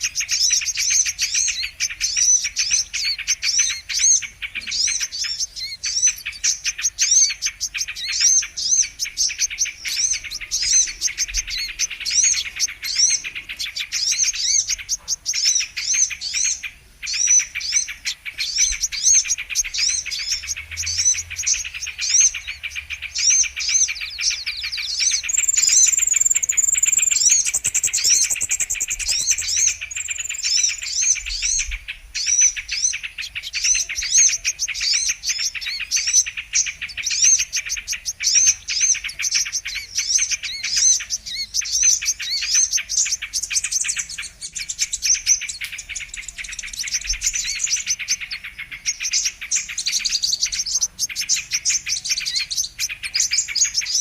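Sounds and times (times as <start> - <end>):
bird chirping and twittering: 0.0 - 54.0.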